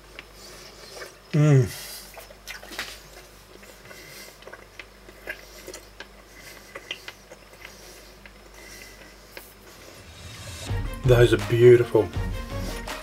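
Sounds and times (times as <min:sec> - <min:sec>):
person chewing crunchy food: 0:00.0 - 0:10.5.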